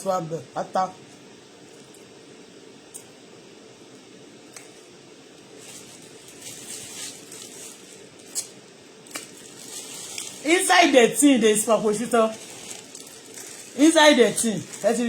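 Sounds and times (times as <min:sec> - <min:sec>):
room hiss: 0:00.0 - 0:15.0.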